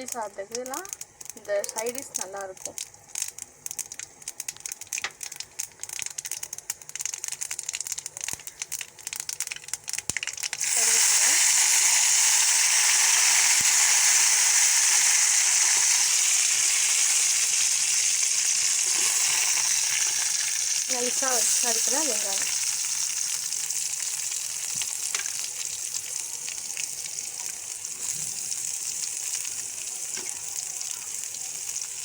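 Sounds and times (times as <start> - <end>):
loud frying sizzle: 0.0 - 32.0
seeds popping in hot oil: 0.0 - 32.0.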